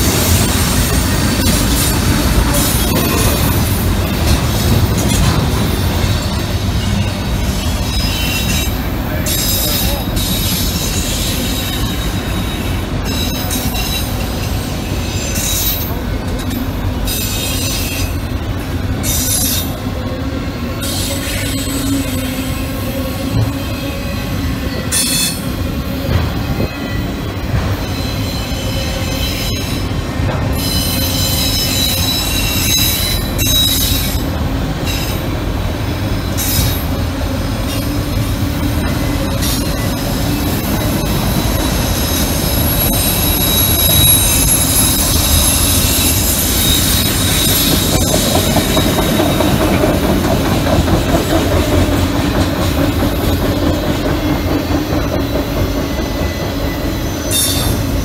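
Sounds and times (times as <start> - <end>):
freight train rumble: 0.0 - 58.0
high squealing from railcars: 0.0 - 58.0.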